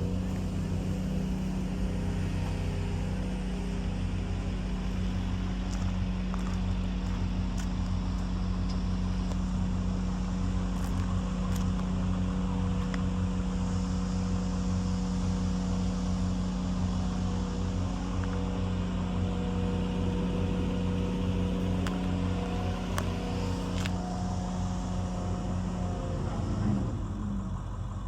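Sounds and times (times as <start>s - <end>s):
wood chipper engine running: 0.0s - 28.0s.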